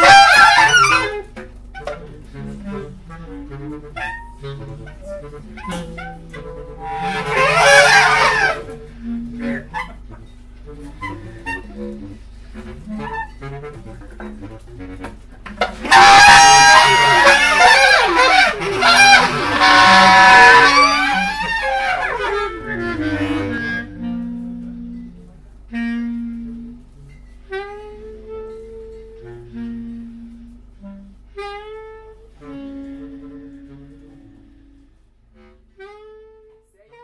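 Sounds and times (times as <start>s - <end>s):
bass clarinets playing: 0.0s - 37.0s.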